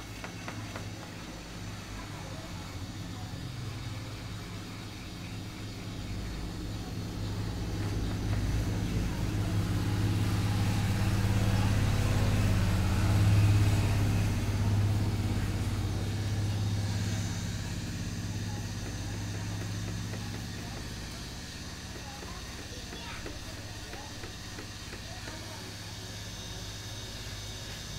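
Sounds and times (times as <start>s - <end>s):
hot air gun blower humming: 0.0s - 27.9s.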